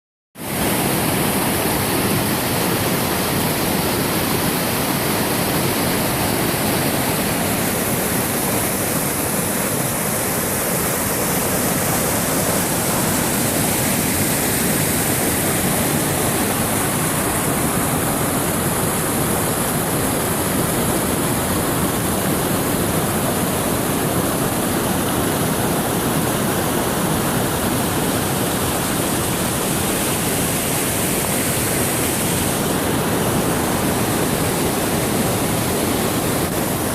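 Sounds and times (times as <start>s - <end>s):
stream water rushing: 0.4s - 36.9s.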